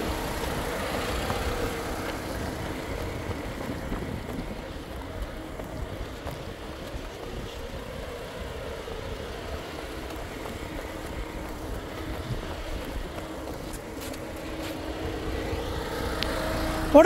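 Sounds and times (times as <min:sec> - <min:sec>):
car engine running at low speed: 0:00.0 - 0:17.0
wind rumbling on microphone: 0:00.0 - 0:17.0.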